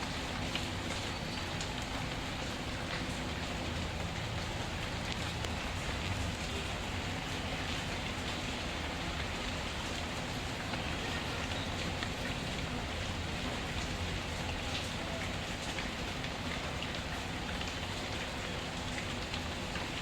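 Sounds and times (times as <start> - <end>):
faint wood fire crackles: 0.0 - 20.0
steady rain falling: 0.0 - 20.0.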